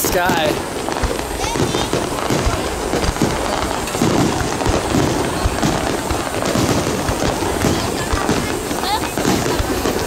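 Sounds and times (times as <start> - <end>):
continuous rumble: 0.0 - 10.0
fireworks bangs and crackles: 0.0 - 10.0.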